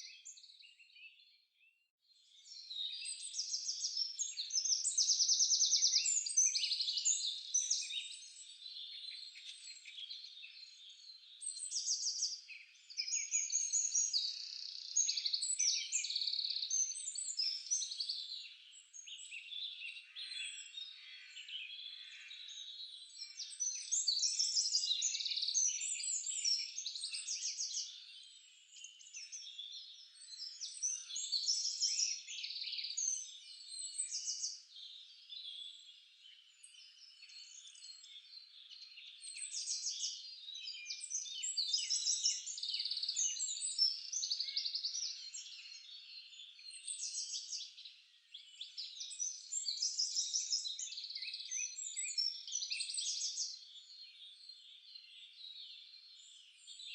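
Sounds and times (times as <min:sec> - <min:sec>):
songbirds chorus: 0:00.0 - 0:56.9.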